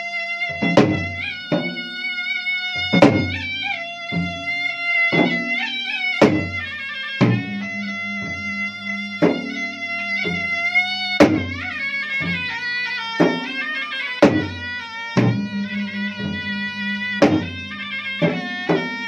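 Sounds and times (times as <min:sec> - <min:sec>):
reedy shawm melody: 0:00.0 - 0:19.0
drums struck with hand and stick: 0:00.4 - 0:19.0.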